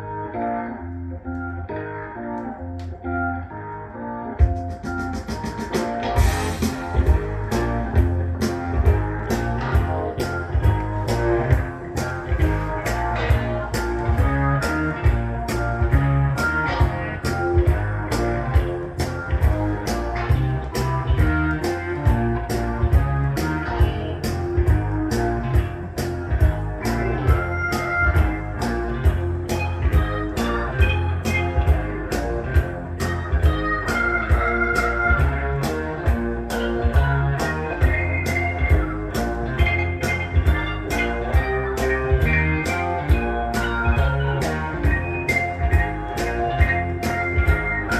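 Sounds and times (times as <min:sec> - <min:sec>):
rock music: 0:00.0 - 0:47.9.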